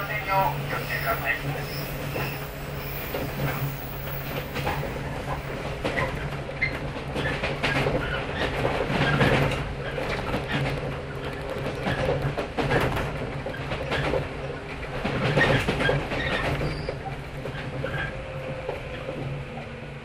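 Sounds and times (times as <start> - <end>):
train wheels clicking over rail joints: 2.0 - 19.6.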